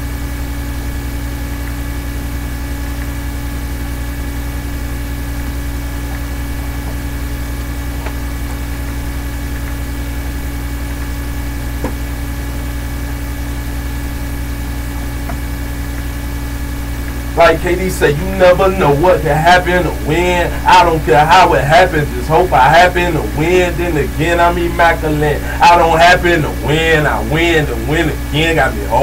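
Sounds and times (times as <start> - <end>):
steady low hum: 0.0 - 29.0
constant higher tones: 2.6 - 29.0.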